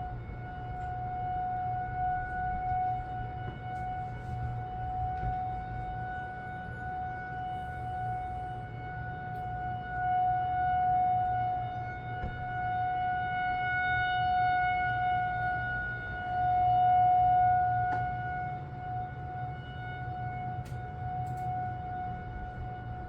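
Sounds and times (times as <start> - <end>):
rotating warning siren: 0.0 - 23.0.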